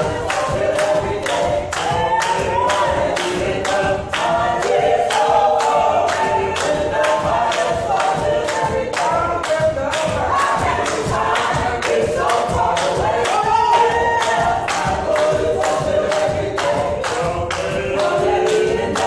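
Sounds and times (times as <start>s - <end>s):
choir singing: 0.0s - 19.0s
sharp steady beat: 0.0s - 19.0s.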